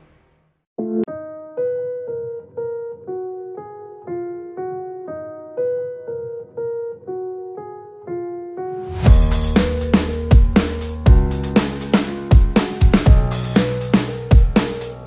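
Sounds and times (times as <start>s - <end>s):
electric piano melody: 0.8s - 15.0s.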